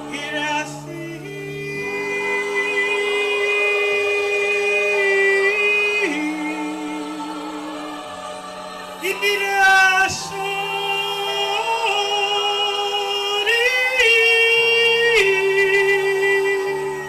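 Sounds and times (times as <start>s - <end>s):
low sustained chords: 0.0s - 17.0s.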